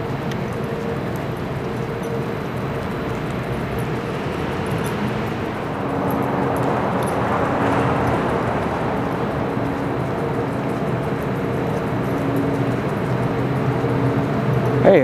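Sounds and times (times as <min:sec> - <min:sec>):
city drone: 0:00.0 - 0:15.0
faint steady hums: 0:00.0 - 0:15.0.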